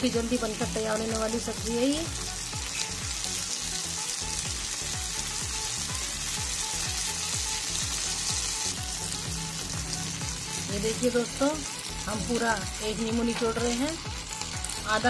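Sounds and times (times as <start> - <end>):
vegetables sizzling in pan: 0.0 - 15.0.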